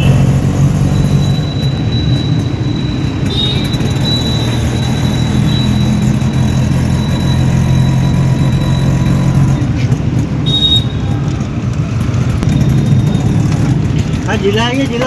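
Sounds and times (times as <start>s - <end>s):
vehicle humming: 0.0s - 15.0s.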